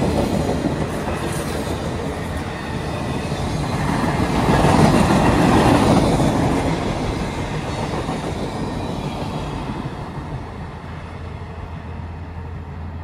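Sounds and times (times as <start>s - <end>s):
passenger train rolling past: 0.0s - 13.0s.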